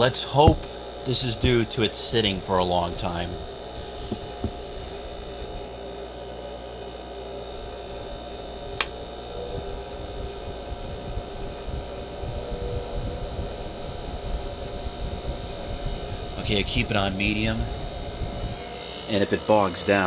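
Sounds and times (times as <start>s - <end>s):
air conditioner fan motor humming: 0.0s - 20.0s.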